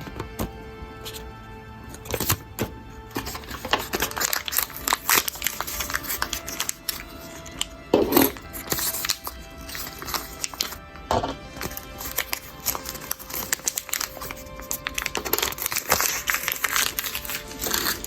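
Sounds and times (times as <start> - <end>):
background music: 0.0 - 18.0
plastic packets crinkling: 1.9 - 18.0.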